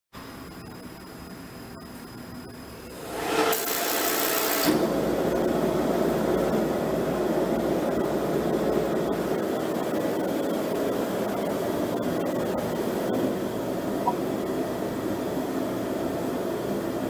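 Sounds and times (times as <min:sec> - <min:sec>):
oil burner flame rushing: 0:03.0 - 0:17.0.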